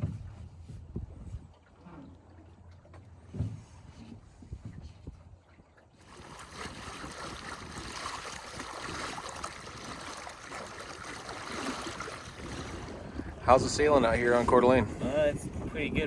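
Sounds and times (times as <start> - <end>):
water rushing along a hull: 0.0 - 16.0.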